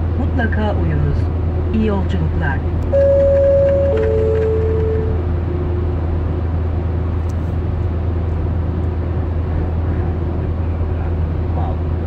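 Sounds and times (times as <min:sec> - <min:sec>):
car road noise drone: 0:00.0 - 0:12.0.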